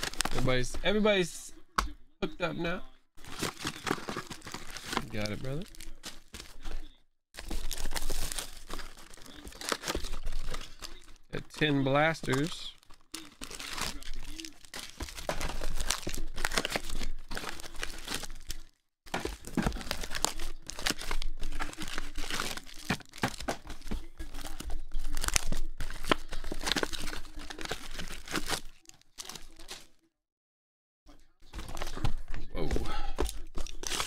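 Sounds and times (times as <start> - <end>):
plastic wrapping crinkling and tearing: 0.0 - 1.0, 3.2 - 30.0, 31.5 - 32.6, 33.2 - 34.0.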